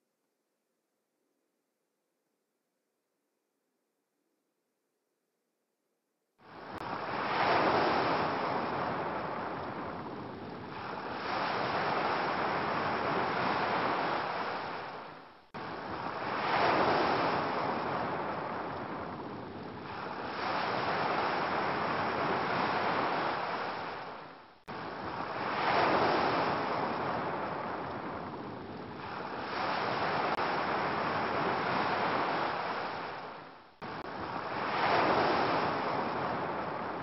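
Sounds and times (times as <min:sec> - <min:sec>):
ocean waves washing in: 0:06.4 - 0:37.0.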